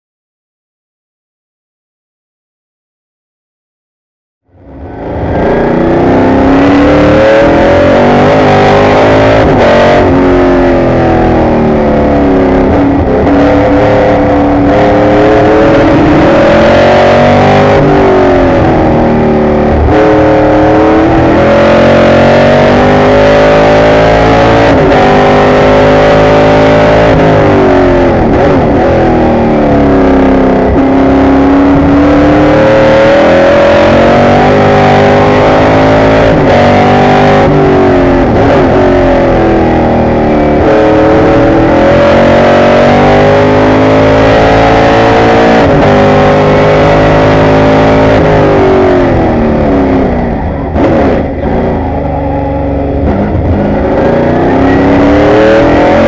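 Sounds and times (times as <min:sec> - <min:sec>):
race car engine revving through gears: 0:04.7 - 0:56.0.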